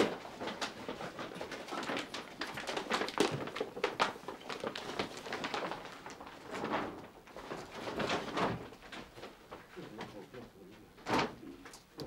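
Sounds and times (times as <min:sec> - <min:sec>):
papers and belongings rustling: 0:00.0 - 0:12.0.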